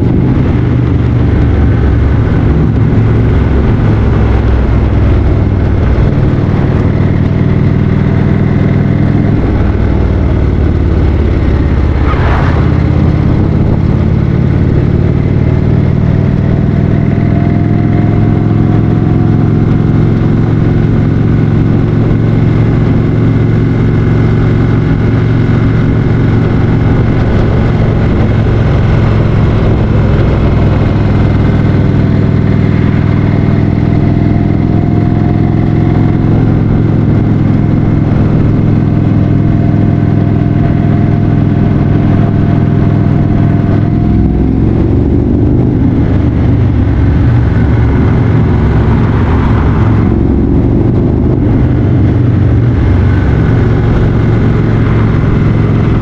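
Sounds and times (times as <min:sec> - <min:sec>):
rushing noise: 0:00.0 - 0:23.2, 0:24.3 - 0:56.0
motorcycle engine running: 0:00.0 - 0:56.0
road noise: 0:00.0 - 0:56.0.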